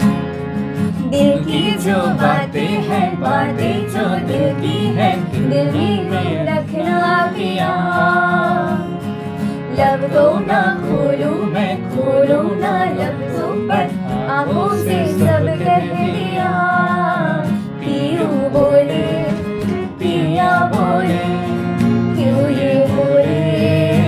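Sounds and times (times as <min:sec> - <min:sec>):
acoustic guitar: 0:00.0 - 0:24.0
women singing together: 0:01.1 - 0:09.0, 0:09.6 - 0:24.0.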